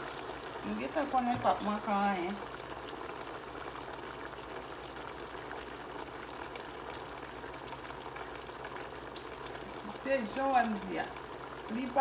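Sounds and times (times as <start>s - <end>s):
food bubbling in a pot: 0.0s - 12.0s.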